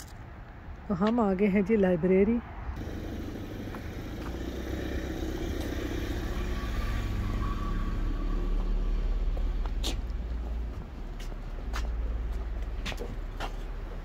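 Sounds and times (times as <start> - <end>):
car engine rumbling: 2.8 - 14.0.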